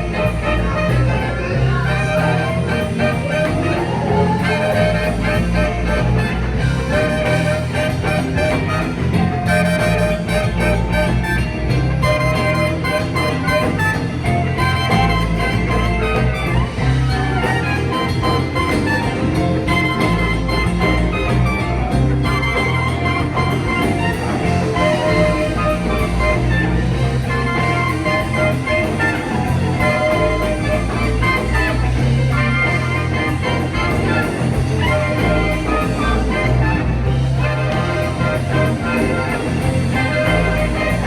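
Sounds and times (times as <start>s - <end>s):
band music with steady beat: 0.0s - 41.0s.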